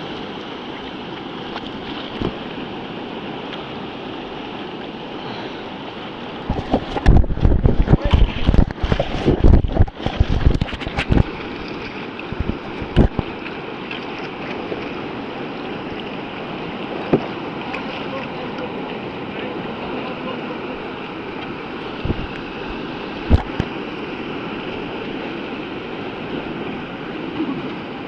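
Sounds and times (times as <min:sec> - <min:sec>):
churning white water rushing: 0:00.0 - 0:28.0
water splashing and thudding: 0:00.0 - 0:28.0.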